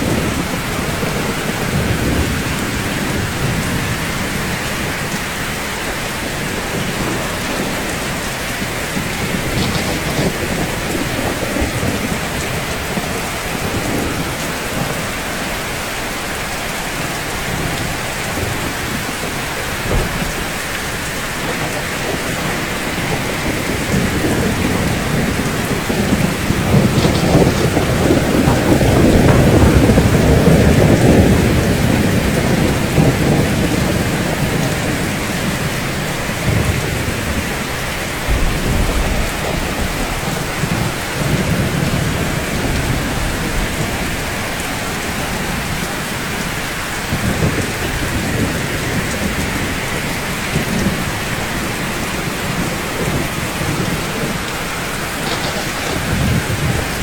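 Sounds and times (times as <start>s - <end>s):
dense rainfall: 0.0s - 57.0s
thunder rumble: 0.0s - 57.0s.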